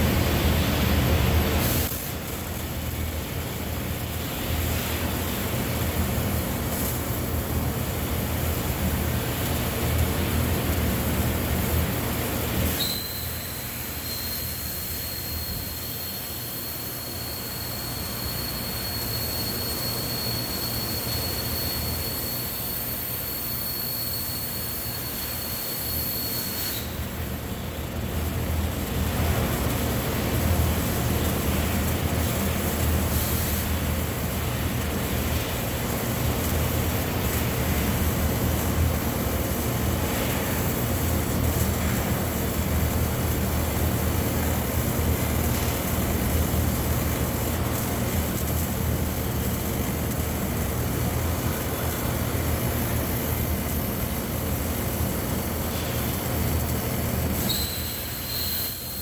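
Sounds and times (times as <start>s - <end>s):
thin high whine: 0.0s - 59.0s
welding arc hissing and buzzing: 0.0s - 59.0s.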